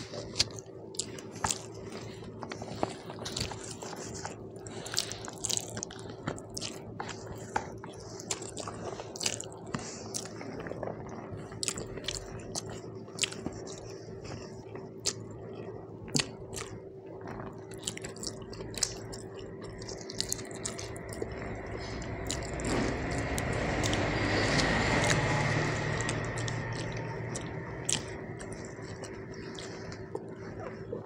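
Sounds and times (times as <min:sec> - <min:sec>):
close chewing with wet smacks: 0:00.0 - 0:31.0.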